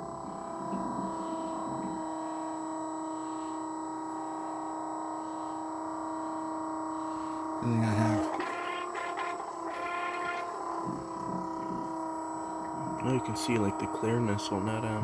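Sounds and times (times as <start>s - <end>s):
electric pump motor humming: 0.0s - 15.0s.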